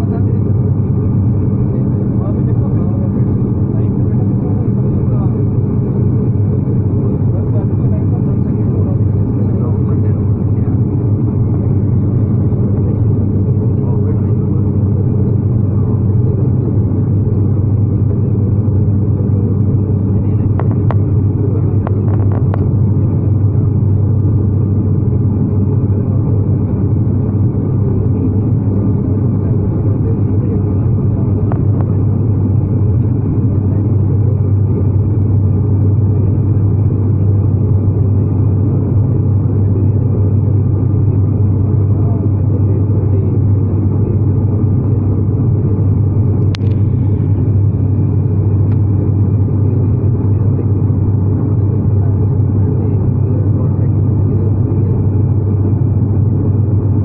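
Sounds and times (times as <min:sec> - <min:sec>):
turboprop engines droning in cabin: 0:00.0 - 0:57.0.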